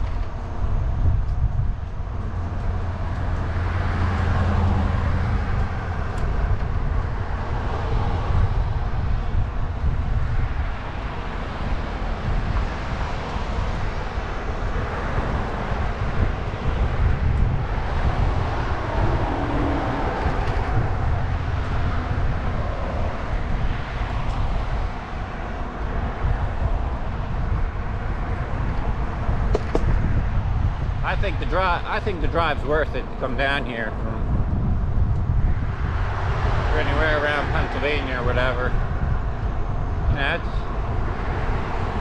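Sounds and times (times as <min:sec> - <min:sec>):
tyre and road noise: 0:00.0 - 0:42.0
wind buffeting microphone: 0:00.0 - 0:42.0.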